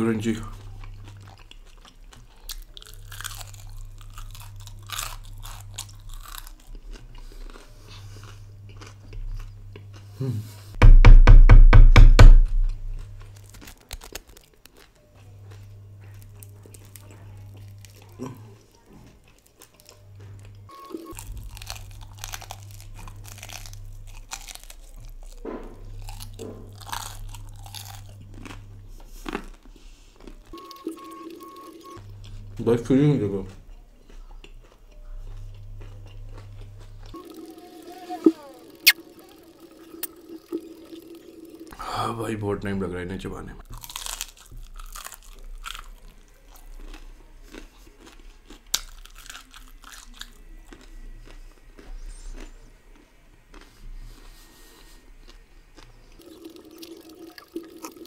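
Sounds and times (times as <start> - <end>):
chewing and crunching: 0.2 - 10.8, 12.9 - 41.8, 43.6 - 58.0.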